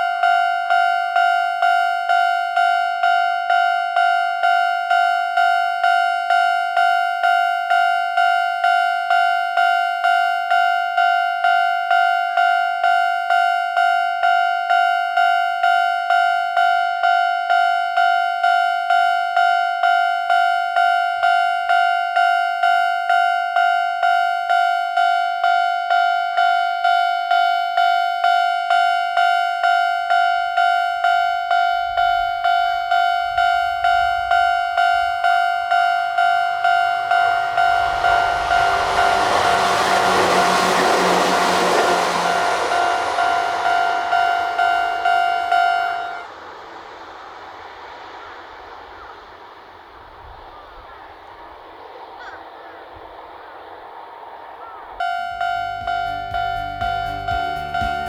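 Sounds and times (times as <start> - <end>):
railroad crossing bell ringing: 0.0 - 46.9, 55.0 - 58.0.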